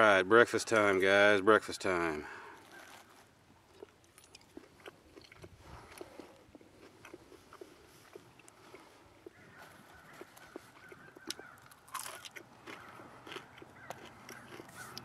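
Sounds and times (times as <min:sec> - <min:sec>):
person chewing crunchy food: 0:02.4 - 0:15.0.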